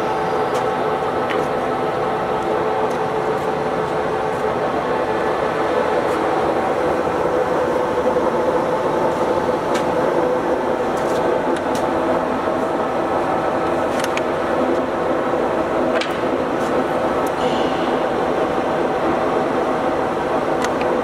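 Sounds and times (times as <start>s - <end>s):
lathe gear whine: 0.0s - 21.0s.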